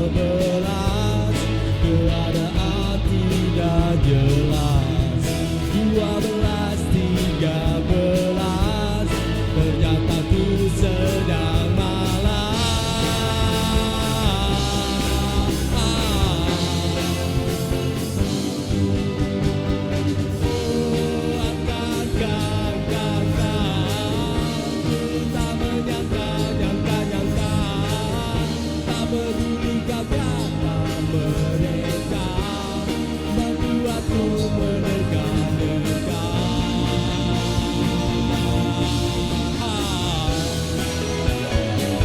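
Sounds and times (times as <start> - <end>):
rock band playing live: 0.0 - 42.0.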